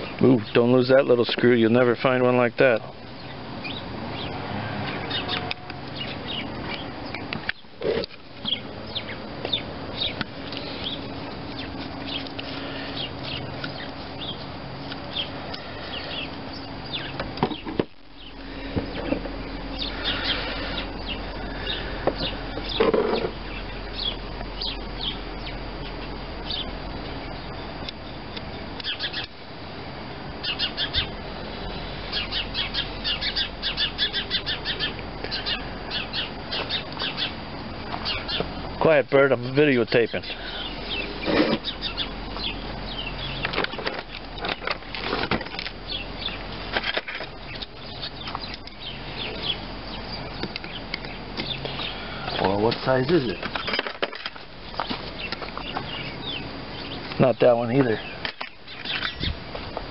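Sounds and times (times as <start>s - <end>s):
bird chirping: 3.0s - 29.4s, 30.4s - 38.8s, 39.4s - 44.7s, 45.4s - 46.6s, 47.2s - 59.4s.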